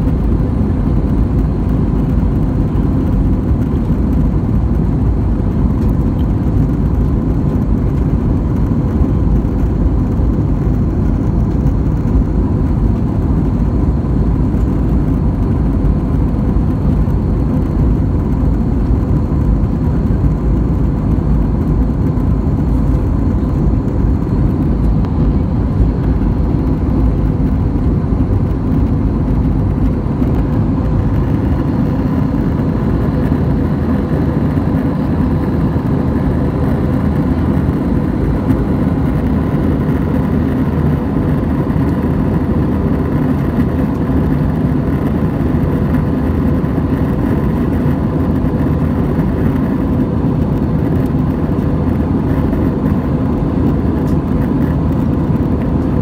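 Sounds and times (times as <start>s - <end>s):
jet cabin engine drone: 0.0s - 56.0s.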